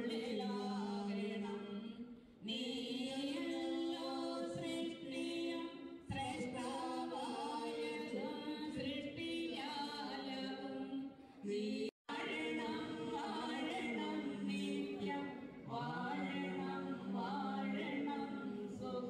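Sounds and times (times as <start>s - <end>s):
voices singing in harmony: 0.0s - 19.0s.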